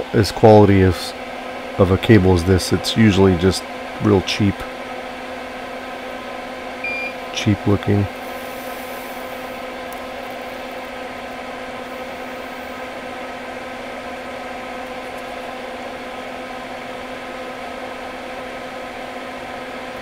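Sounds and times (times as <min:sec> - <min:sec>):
extractor fan whirring: 0:00.0 - 0:20.0.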